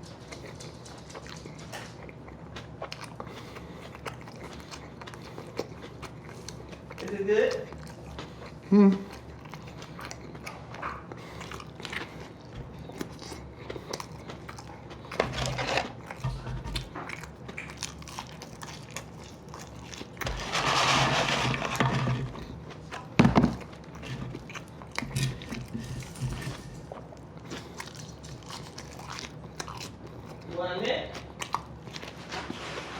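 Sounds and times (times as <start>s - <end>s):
people chewing food: 0.0s - 32.9s.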